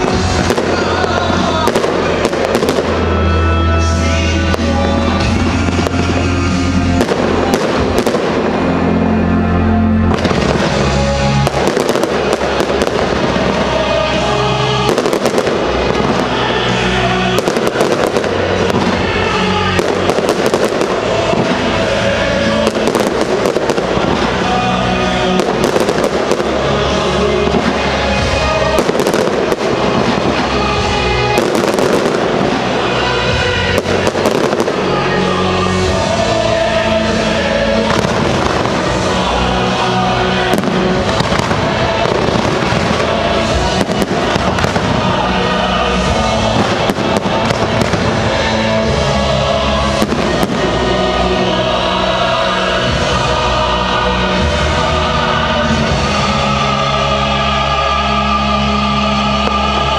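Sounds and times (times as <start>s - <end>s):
fireworks bursting and crackling: 0.0s - 59.9s
loud music: 0.0s - 59.9s.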